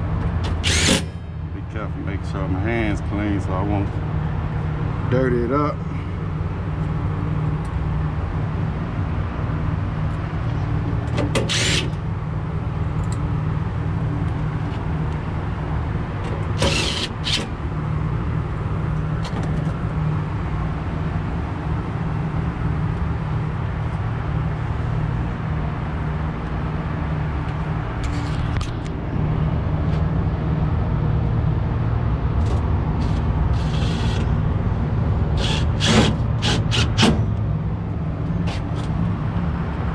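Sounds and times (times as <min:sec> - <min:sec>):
hvac equipment droning: 0:00.0 - 0:39.9.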